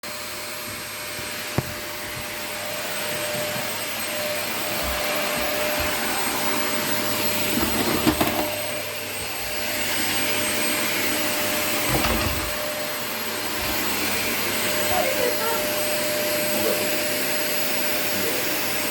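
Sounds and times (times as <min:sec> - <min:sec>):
vacuum cleaner running: 0:00.0 - 0:18.9.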